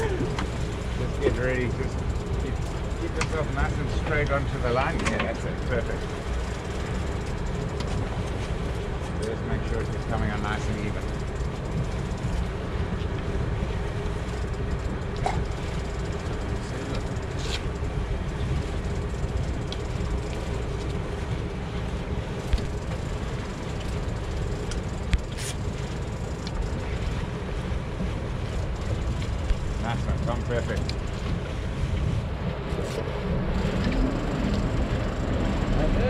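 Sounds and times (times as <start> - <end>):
motor boat engine running: 0.0 - 36.0
wind rumble on microphone: 0.0 - 36.0.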